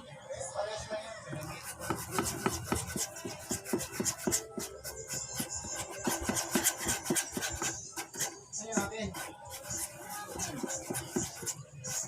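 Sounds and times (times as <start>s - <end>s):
utensil stirring sticky mixture: 1.4s - 12.0s.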